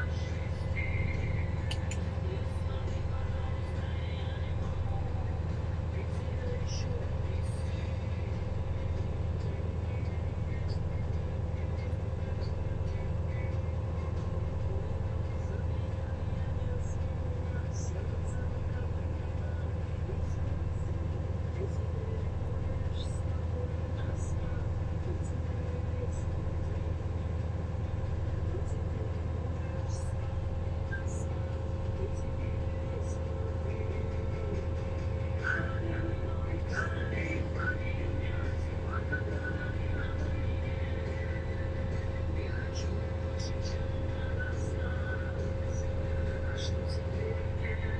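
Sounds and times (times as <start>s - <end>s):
ship diesel engine drone: 0.0s - 47.9s.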